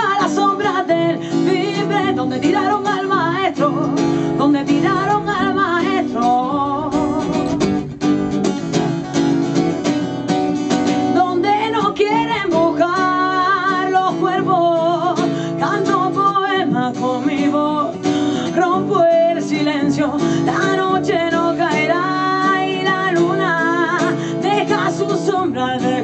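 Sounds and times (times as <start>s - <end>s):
woman singing: 0.0s - 7.9s, 11.0s - 26.0s
acoustic guitar strumming: 0.0s - 26.0s.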